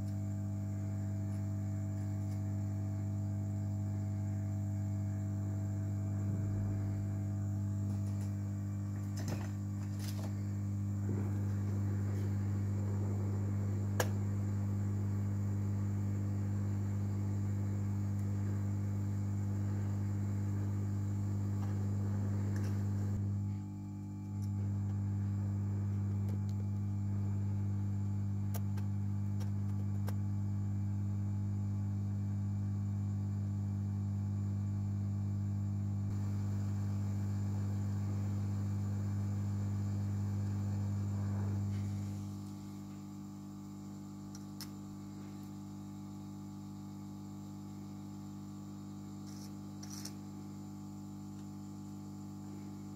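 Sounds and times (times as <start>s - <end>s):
hot air blower hum: 0.0s - 52.9s.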